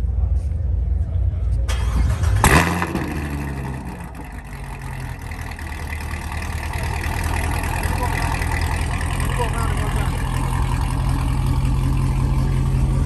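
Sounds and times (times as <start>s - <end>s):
car engine starting and idling: 1.5s - 13.0s.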